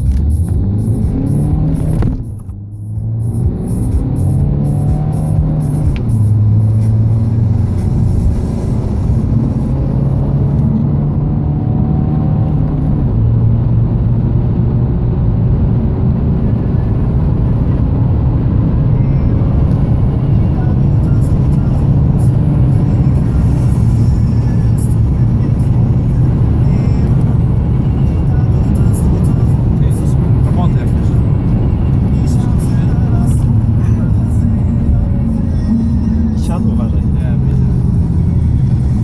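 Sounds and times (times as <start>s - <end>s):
diesel engine accelerating: 0.0s - 39.0s.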